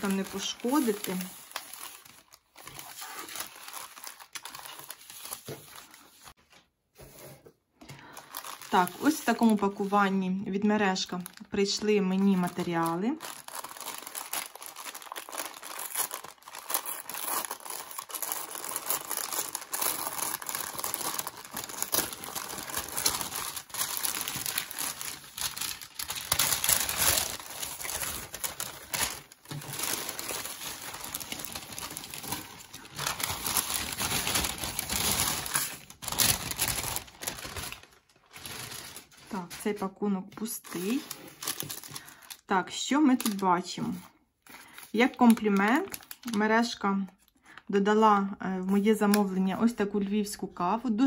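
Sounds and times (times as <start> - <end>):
packaging crinkling: 0.0 - 6.6, 7.9 - 10.2, 11.0 - 39.6, 40.6 - 42.5, 43.1 - 46.5.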